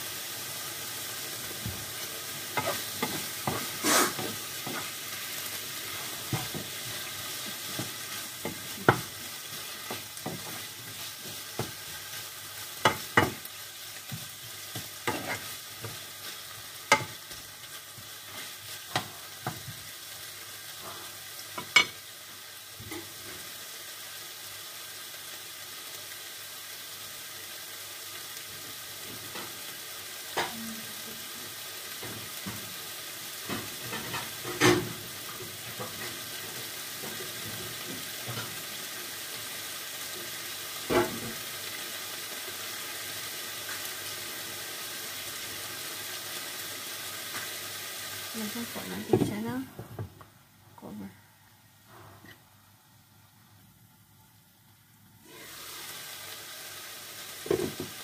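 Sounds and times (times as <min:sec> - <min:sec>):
chicken and onion sizzling in pan: 0:00.0 - 0:58.0.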